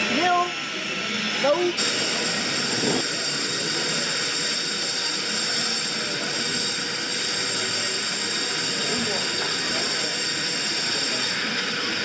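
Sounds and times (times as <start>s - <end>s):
exhibition hall background hiss: 0.0s - 12.0s.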